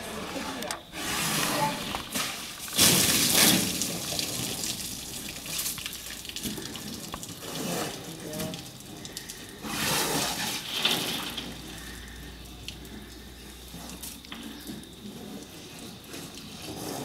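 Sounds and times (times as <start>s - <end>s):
water splashing on concrete floor: 0.0s - 17.0s.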